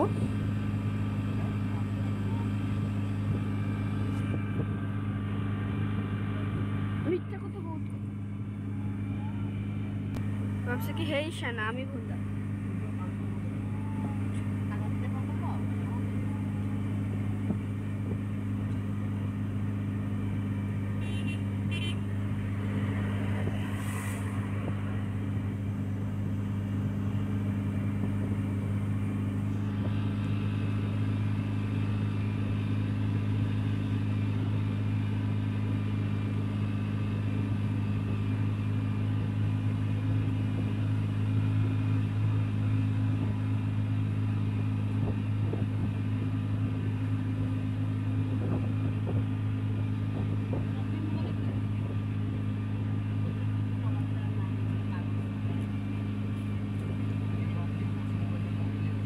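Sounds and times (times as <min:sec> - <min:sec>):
road and wind hiss: 0:00.0 - 0:08.7, 0:09.6 - 0:59.0
van engine drone: 0:00.0 - 0:59.0.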